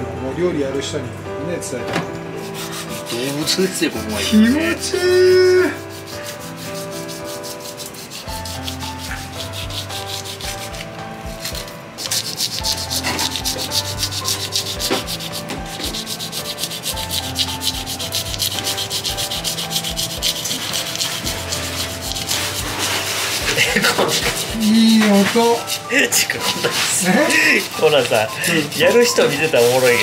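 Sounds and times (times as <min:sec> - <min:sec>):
knife scraping fish scales: 0:02.4 - 0:30.0.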